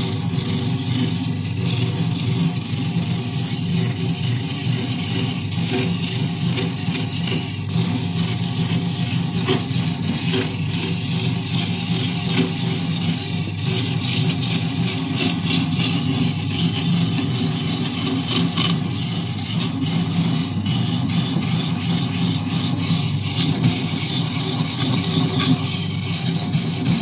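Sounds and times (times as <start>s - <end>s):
electric coconut grater running: 0.0s - 27.0s
grater head rasping coconut flesh: 0.0s - 27.0s.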